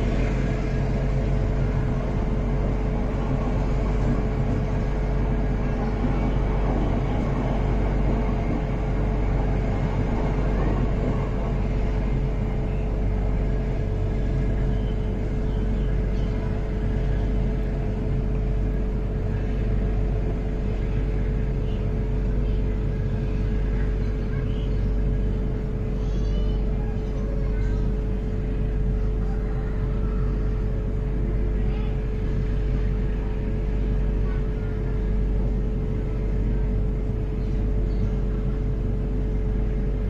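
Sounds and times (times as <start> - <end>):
constant hum: 0.0 - 40.0
train wheels rumbling on rails: 0.0 - 40.0.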